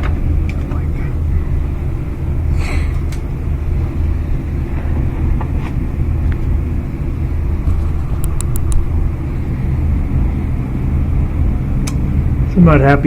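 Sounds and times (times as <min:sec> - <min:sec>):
dryer exhaust air rumble: 0:00.0 - 0:13.0.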